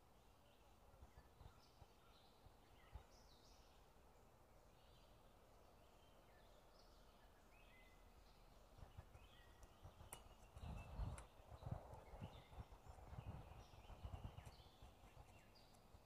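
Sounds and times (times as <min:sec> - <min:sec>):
low steady hiss: 0:00.0 - 0:16.0
small birds chirping: 0:00.0 - 0:16.0.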